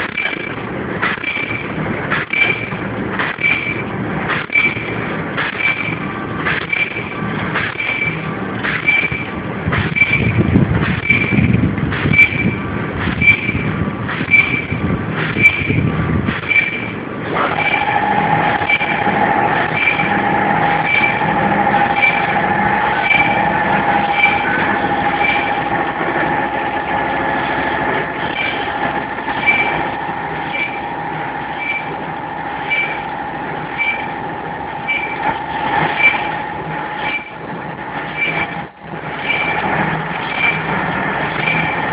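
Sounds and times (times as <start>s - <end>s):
machine mechanical ticking: 0.0s - 41.9s
steady machine whine: 0.0s - 41.9s.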